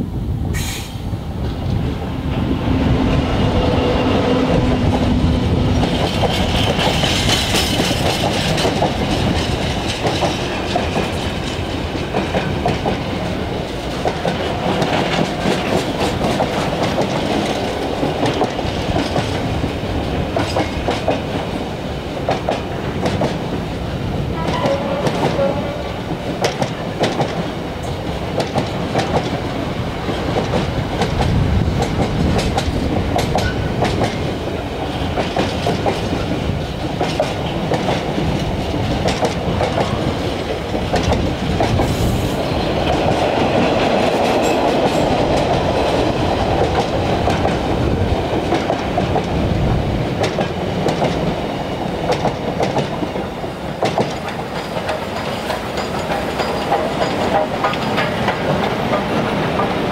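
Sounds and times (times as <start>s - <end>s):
freight train wagons rumbling: 0.0s - 59.9s
wheels clicking over rail joints: 5.8s - 21.6s, 22.2s - 42.0s, 42.7s - 59.9s.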